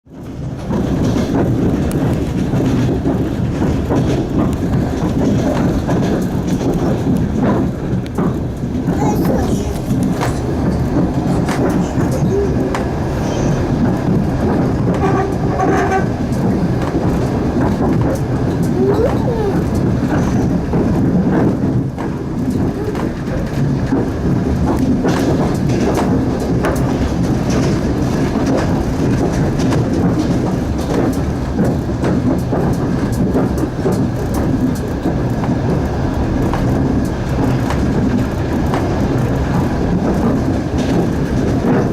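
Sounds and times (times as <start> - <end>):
train wheels rumbling: 0.0 - 41.9
sharp clicks and knocks: 0.2 - 41.9.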